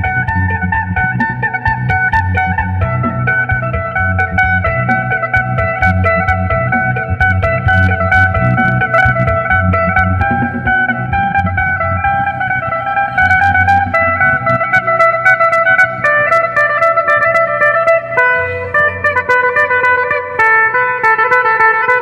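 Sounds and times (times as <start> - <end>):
electric lute plucked melody: 0.0 - 22.0.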